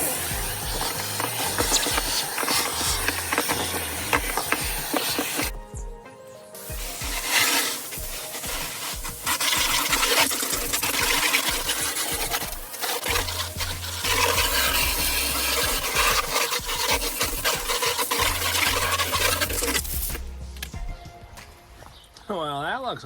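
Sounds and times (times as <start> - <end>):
scraping and rubbing debris: 0.0 - 5.6, 6.7 - 21.5
background music with bass: 0.0 - 23.0.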